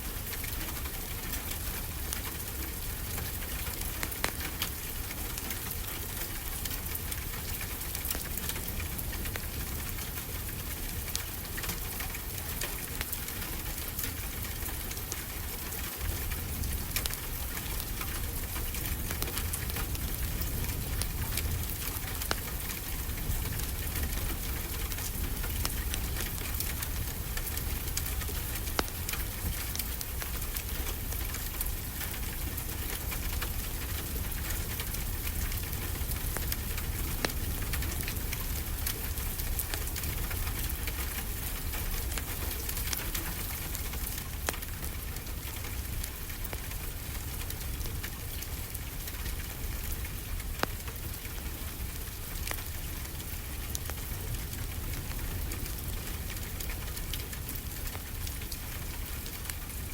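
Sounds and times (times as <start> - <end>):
steady rain falling: 0.0 - 59.9
wood fire crackling: 0.0 - 59.9.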